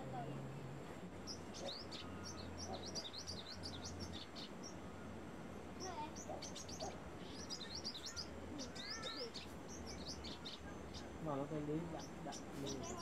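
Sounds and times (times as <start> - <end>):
bird twittering chirps: 1.1 - 13.0.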